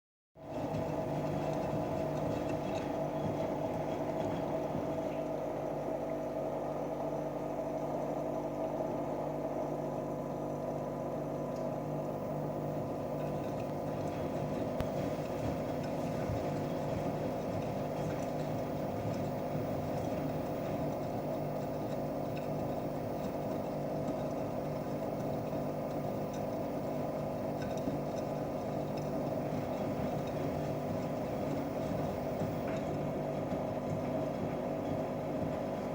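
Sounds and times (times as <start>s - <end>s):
washing machine running: 0.4s - 35.9s.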